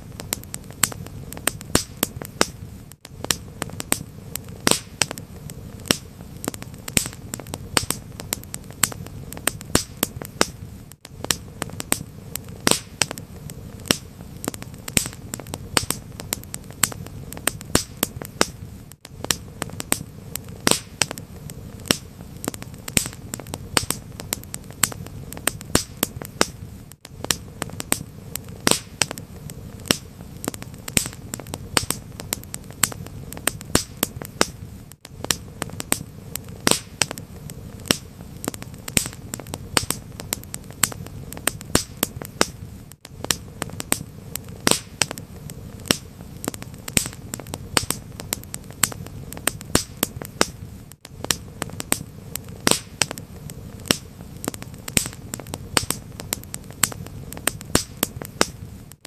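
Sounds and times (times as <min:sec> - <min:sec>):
fire pops and snaps: 0:00.0 - 0:59.0
low rumble of burning: 0:00.0 - 0:59.0.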